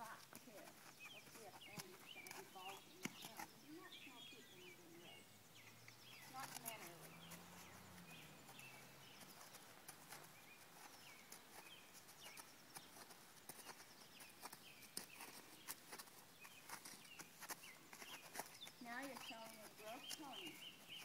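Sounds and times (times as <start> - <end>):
horse hoofbeats on dirt: 0.0 - 21.0
faint bird chirps: 0.8 - 21.0.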